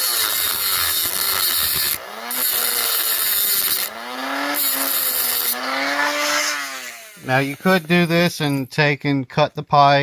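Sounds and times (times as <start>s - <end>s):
rotary tool motor whine: 0.0s - 8.6s
grinding hiss: 0.0s - 8.8s.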